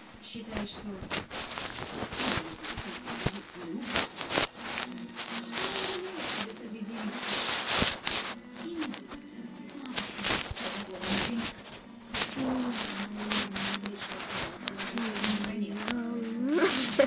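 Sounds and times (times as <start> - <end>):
cat scratching at a surface: 0.0 - 17.0
faint background tv sound: 0.0 - 17.0.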